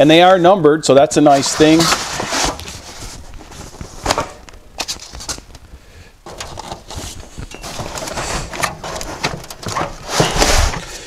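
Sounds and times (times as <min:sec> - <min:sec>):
cardboard scraping and rustling: 0:01.3 - 0:05.6, 0:06.3 - 0:11.0.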